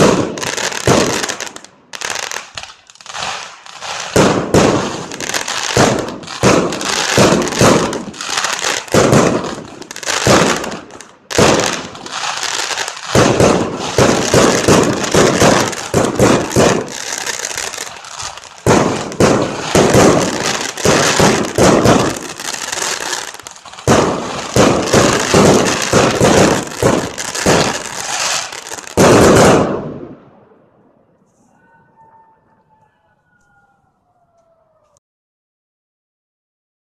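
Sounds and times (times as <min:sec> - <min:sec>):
fireworks bangs and crackling: 0:00.0 - 0:30.6.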